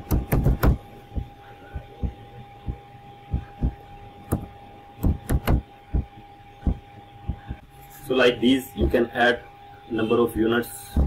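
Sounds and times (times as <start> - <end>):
steady faint hum: 0.0 - 11.0.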